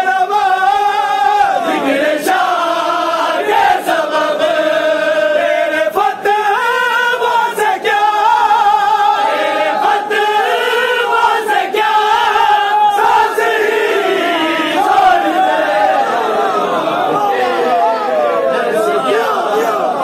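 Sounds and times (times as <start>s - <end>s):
men singing in unison: 0.0s - 17.6s.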